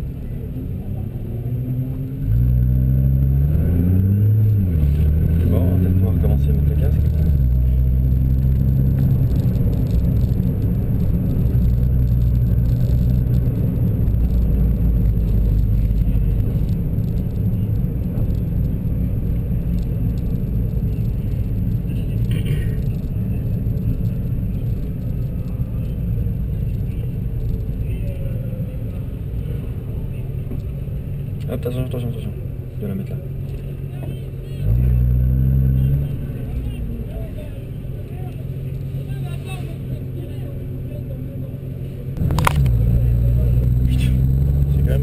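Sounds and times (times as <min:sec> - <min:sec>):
car engine rumble: 0:00.0 - 0:45.0.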